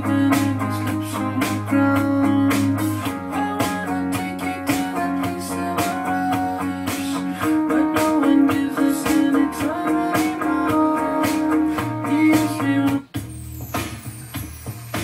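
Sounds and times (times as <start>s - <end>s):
guitar music over loudspeakers: 0.0s - 15.0s.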